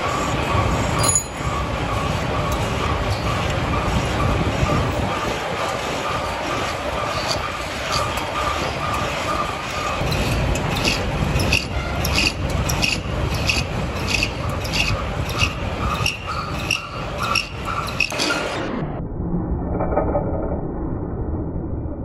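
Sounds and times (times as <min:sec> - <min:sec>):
steady machine noise: 0:00.0 - 0:19.0
rasping scraping strokes on metal: 0:00.1 - 0:18.6.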